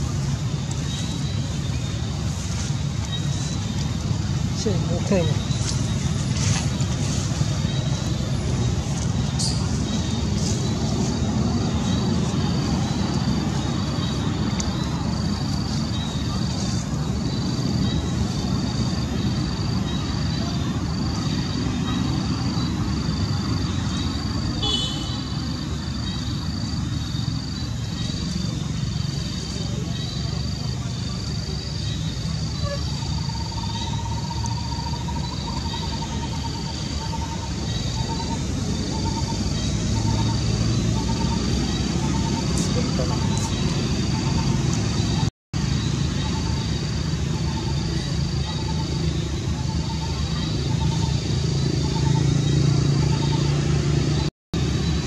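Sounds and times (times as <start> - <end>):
insect chirping: 0.0 - 55.0
low outdoor rumble: 0.0 - 55.0.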